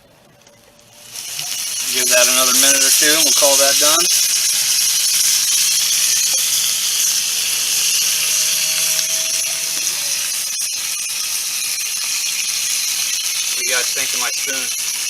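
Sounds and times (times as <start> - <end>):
food sizzling in a pan: 0.6 - 15.0.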